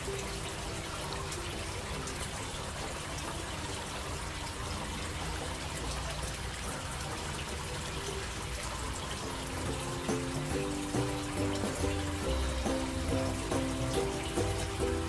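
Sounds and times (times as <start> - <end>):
fountain water trickling and splashing: 0.0 - 15.0.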